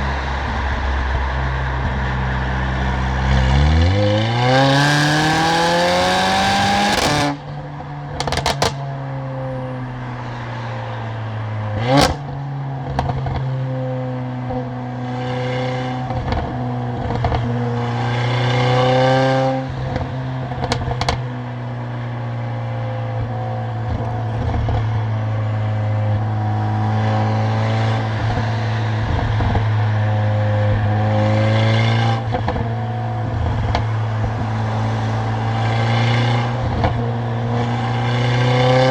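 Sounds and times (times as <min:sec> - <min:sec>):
car engine and loud exhaust: 0:00.0 - 0:38.9.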